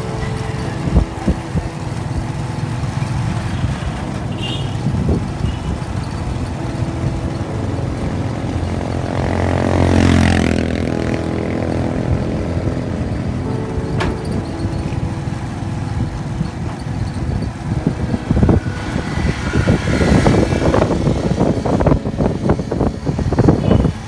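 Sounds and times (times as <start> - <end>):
traffic engine rumble: 0.0 - 24.0
vehicle passing close: 0.0 - 24.0.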